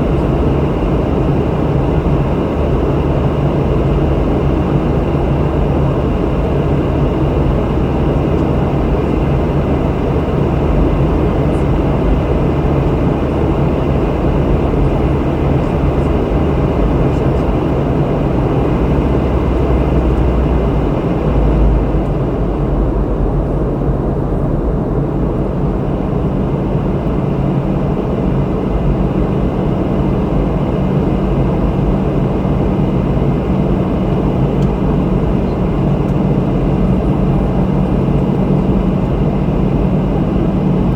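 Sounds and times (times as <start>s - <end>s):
airplane cabin roar: 0.0s - 40.9s
jet engines humming: 0.0s - 40.9s.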